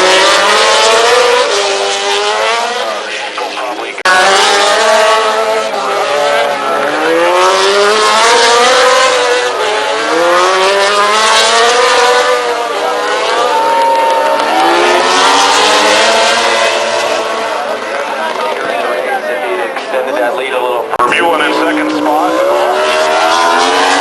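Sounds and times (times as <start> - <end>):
racing motorcycle engine: 0.0 - 24.0.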